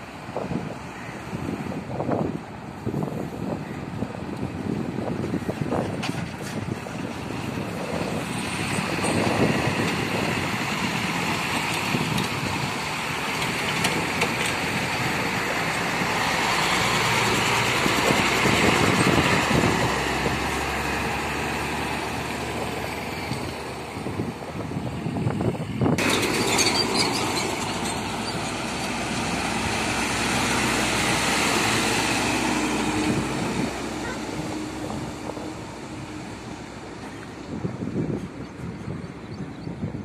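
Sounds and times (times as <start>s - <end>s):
diesel lorries driving past: 0.0s - 39.2s.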